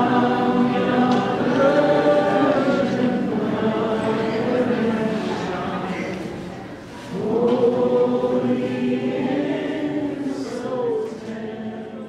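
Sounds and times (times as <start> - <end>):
group singing long-held notes: 0.0 - 12.0.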